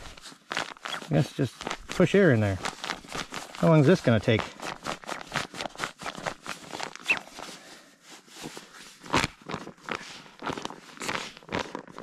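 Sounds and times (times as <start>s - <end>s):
nylon fabric rustling: 0.0s - 12.0s.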